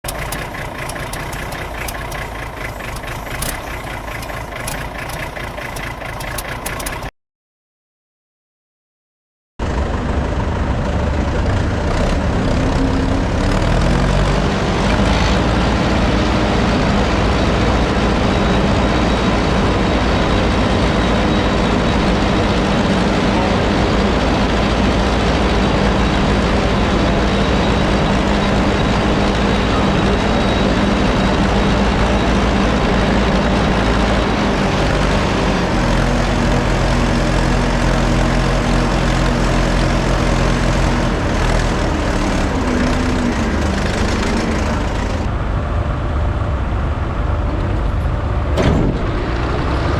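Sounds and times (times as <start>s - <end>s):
tractor engine running under load: 0.0s - 7.1s, 9.6s - 49.9s.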